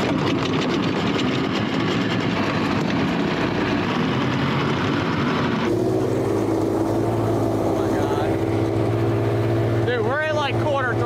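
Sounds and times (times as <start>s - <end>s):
outboard motors running: 0.0s - 11.0s.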